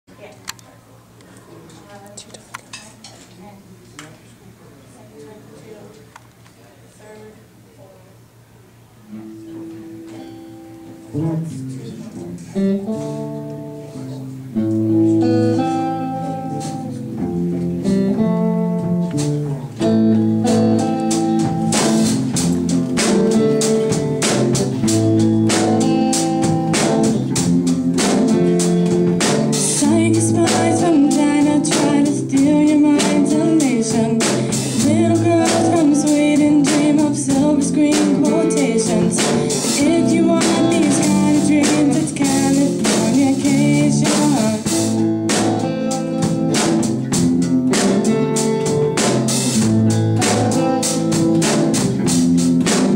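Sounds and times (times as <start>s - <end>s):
drum kit: 9.2s - 52.9s
rock band playing live: 9.2s - 52.9s.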